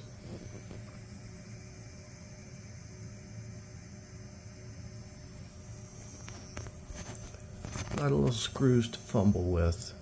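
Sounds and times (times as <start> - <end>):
faint steady tones: 0.0 - 10.0
steady low hum: 0.0 - 10.0.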